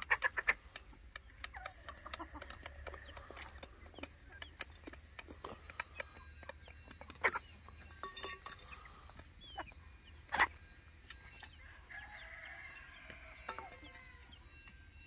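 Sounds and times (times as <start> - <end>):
beaks pecking steel bowl: 0.0 - 14.8
chickens clucking: 0.0 - 15.0.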